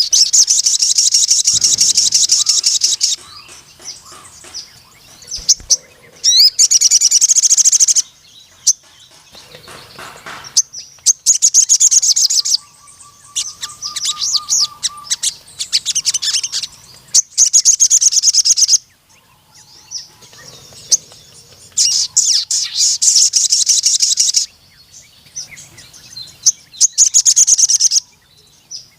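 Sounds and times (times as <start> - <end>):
sunbird chattering trills: 0.0 - 24.6, 25.2 - 28.3.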